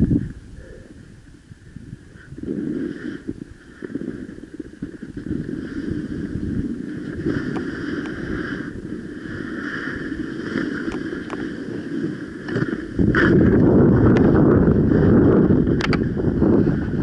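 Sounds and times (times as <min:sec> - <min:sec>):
wind on microphone: 0:00.0 - 0:17.0
skis scraping over snow: 0:00.6 - 0:17.0.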